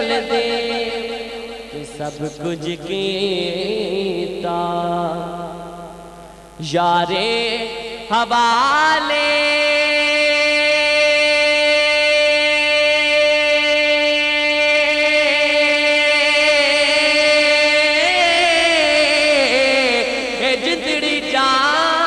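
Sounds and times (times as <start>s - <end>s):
man singing solo: 0.0s - 5.7s, 6.6s - 22.0s.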